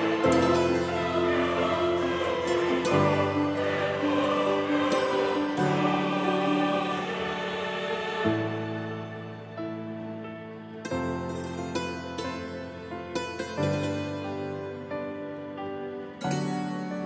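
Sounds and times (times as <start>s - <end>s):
slow layered background music: 0.0s - 17.0s.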